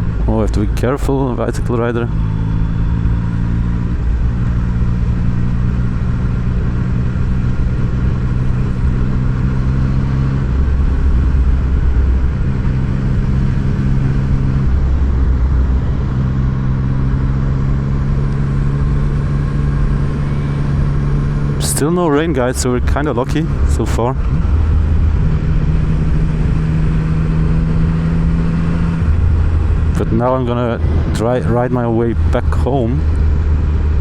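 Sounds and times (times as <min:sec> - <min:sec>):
low rumble: 0:00.0 - 0:34.0
motorcycle engine running: 0:00.0 - 0:34.0.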